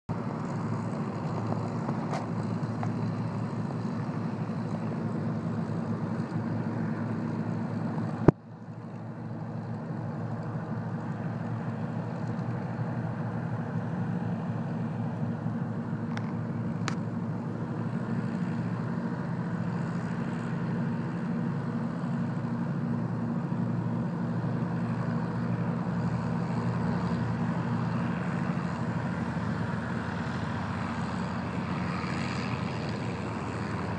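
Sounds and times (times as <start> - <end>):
piston engine droning: 0.1 - 33.9.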